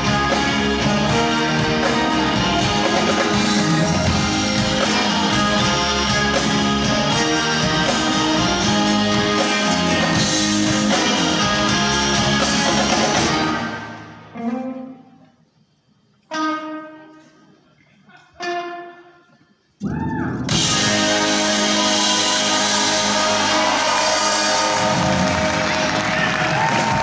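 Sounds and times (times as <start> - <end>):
guitar: 0.0 - 15.2, 16.2 - 17.5, 19.8 - 27.0
live band playing: 0.0 - 15.2, 16.3 - 17.5, 19.8 - 27.0.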